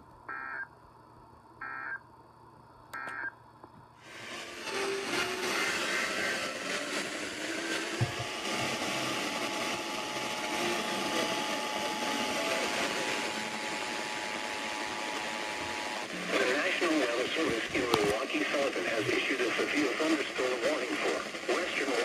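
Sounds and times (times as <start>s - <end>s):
radio static hiss: 0.3s - 0.7s, 1.6s - 2.0s, 3.0s - 3.4s, 4.0s - 22.0s.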